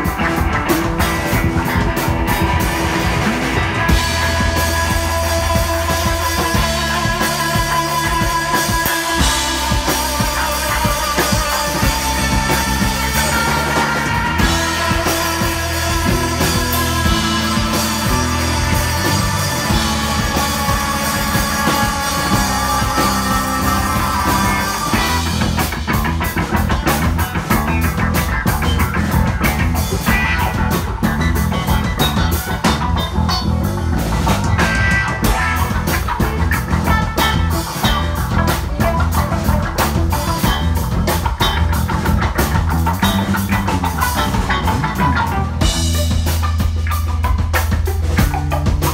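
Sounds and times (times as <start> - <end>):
bass guitar: 0.0 - 48.9
drum kit fast beat: 0.0 - 48.9
electric guitar chords: 0.0 - 48.9.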